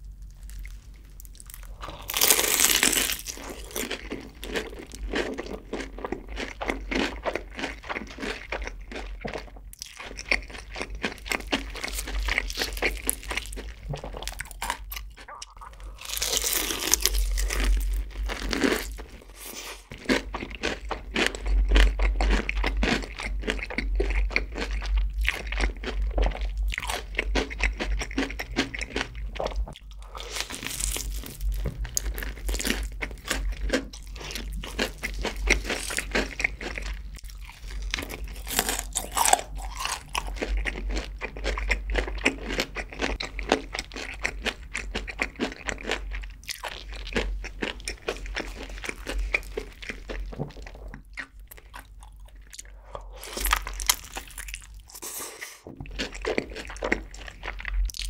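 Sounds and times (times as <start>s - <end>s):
crunching fried chicken: 0.0s - 58.0s.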